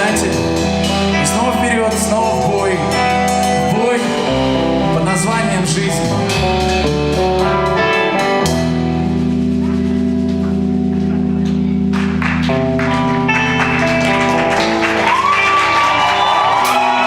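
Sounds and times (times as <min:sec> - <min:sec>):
guitar chords strummed: 0:00.0 - 0:15.5
held bass: 0:00.0 - 0:17.0.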